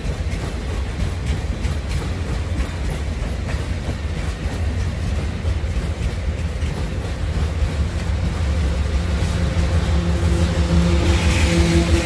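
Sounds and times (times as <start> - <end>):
diesel locomotive drone: 0.0 - 12.0
freight train rumbling past: 0.0 - 12.0.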